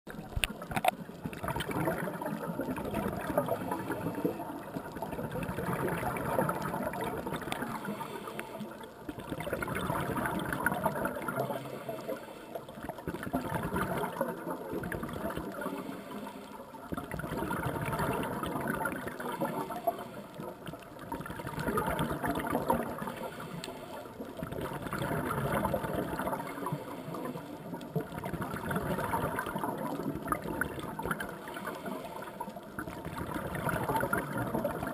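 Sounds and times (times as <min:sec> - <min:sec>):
underwater regulator bubbling: 0:00.1 - 0:11.9, 0:16.8 - 0:34.9.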